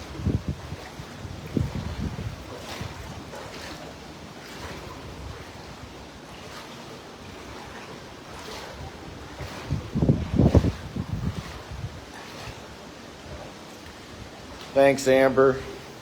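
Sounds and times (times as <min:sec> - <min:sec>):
floodwater rushing: 0:00.0 - 0:16.0
wind rumbling on microphone: 0:00.0 - 0:16.0.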